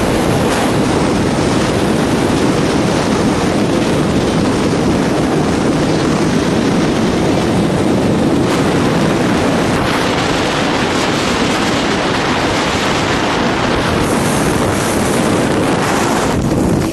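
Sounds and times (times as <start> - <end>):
vehicle road noise: 0.0 - 16.9
wind rushing over microphone: 0.0 - 16.9.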